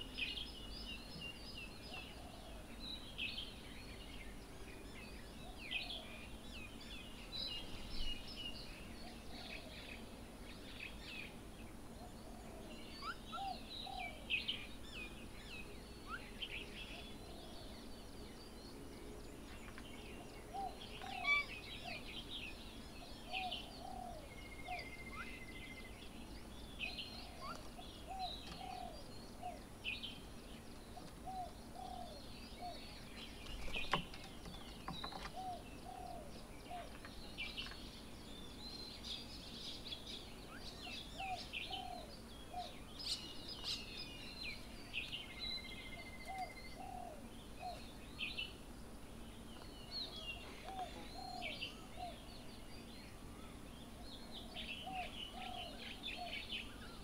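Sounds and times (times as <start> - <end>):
birds chirping and trilling: 0.0 - 57.0
faint outdoor background: 0.0 - 57.0.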